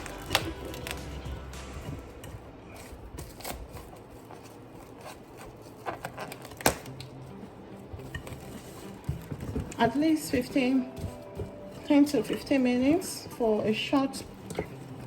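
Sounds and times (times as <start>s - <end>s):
plastic cling wrap crinkling: 0.0s - 15.0s.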